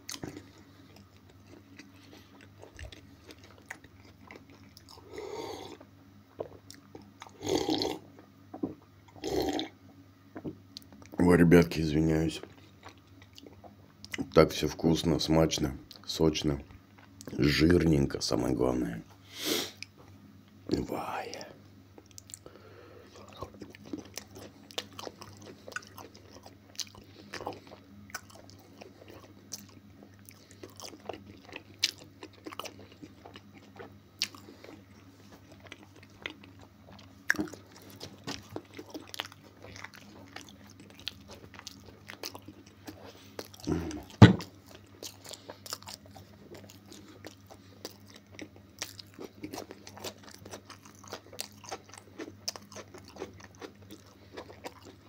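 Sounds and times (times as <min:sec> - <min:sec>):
crunchy chewing: 0:00.0 - 0:08.3, 0:10.7 - 0:15.1, 0:22.0 - 0:55.0
faint low hum: 0:00.0 - 0:55.0.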